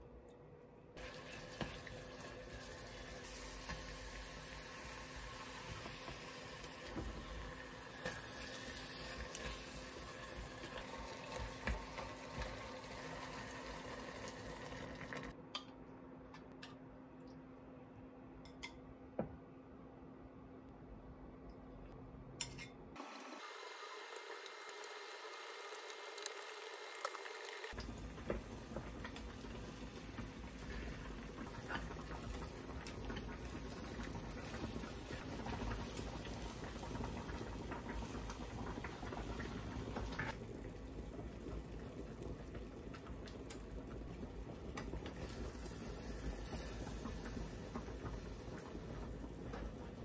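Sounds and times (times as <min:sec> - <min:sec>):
egg sizzling in a frying pan: 0:01.0 - 0:15.4, 0:23.0 - 0:50.0.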